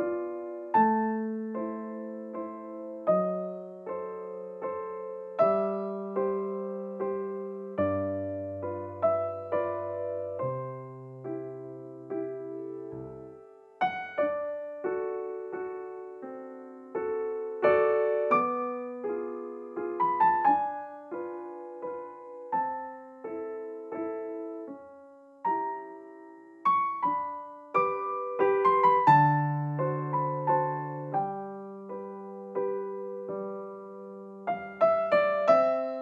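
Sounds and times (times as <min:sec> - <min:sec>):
gentle piano melody: 0:00.0 - 0:36.0.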